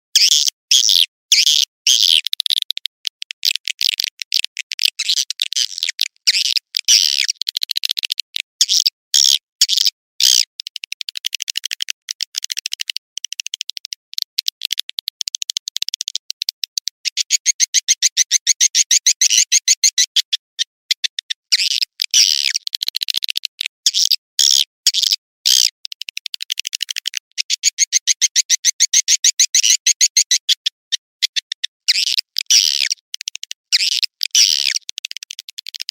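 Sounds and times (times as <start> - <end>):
fast clicking trills: 1.4 - 8.9, 9.7 - 24.2, 25.0 - 35.9.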